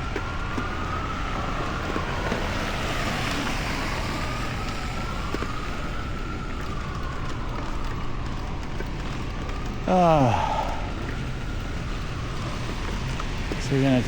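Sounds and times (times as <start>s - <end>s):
emergency vehicle siren wailing: 0.0s - 14.0s
street traffic noise: 0.0s - 14.0s.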